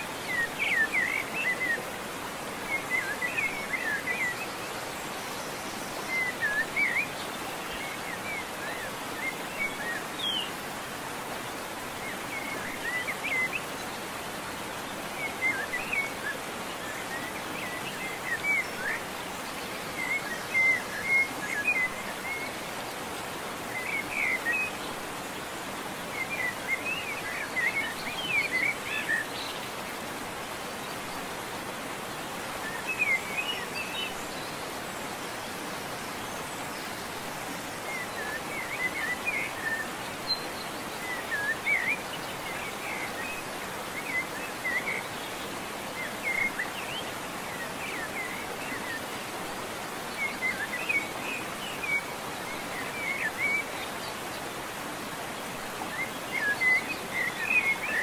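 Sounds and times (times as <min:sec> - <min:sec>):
small birds chirping: 0:00.0 - 0:58.0
steady outdoor hiss: 0:00.0 - 0:58.0.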